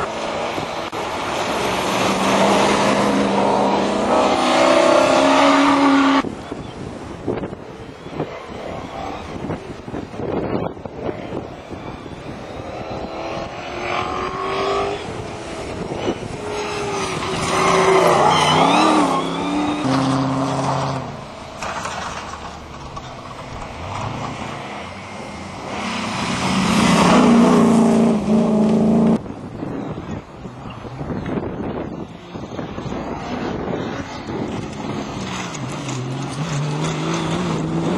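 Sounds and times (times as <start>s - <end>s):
racing car engines revving: 0.0s - 6.3s, 7.4s - 37.9s.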